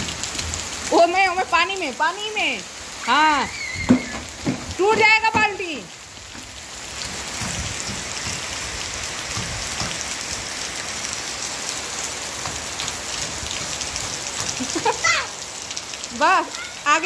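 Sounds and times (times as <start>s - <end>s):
rain on concrete rooftop: 0.0s - 17.0s
bare feet splashing in puddles: 3.0s - 16.7s.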